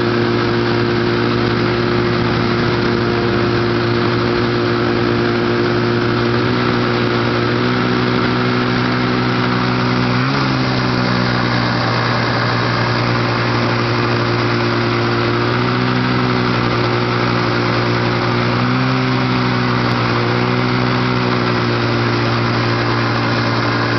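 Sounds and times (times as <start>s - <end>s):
snowmobile engine running: 0.0s - 23.9s.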